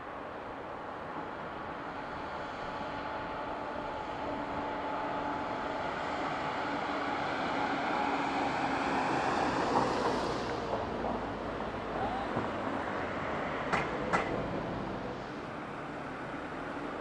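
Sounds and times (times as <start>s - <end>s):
jet engines on approach: 0.0s - 17.0s.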